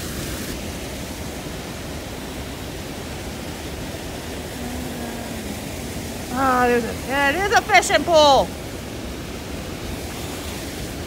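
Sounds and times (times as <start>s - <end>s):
rushing outdoor noise: 0.0s - 11.0s.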